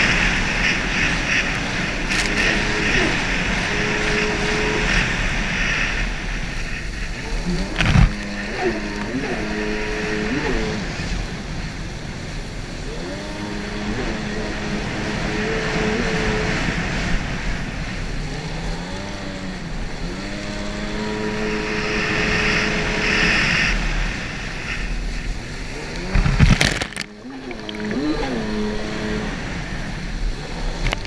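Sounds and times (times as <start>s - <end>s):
jet ski engine revving: 0.0s - 31.0s
water spray rushing: 0.0s - 31.0s
wind: 0.0s - 31.0s.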